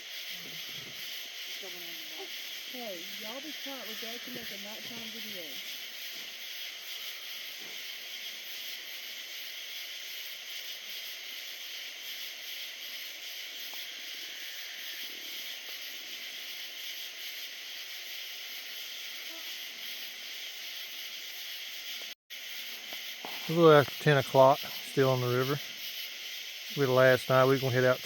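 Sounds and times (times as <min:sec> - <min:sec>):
night insects chorus: 0:00.0 - 0:28.0.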